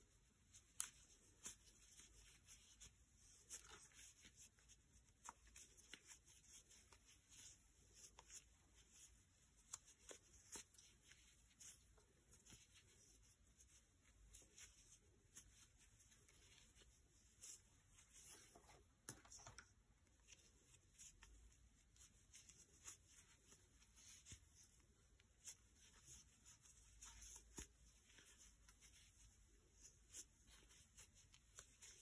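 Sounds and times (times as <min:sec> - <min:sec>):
faint rustles and soft ticks: 0:00.0 - 0:32.0.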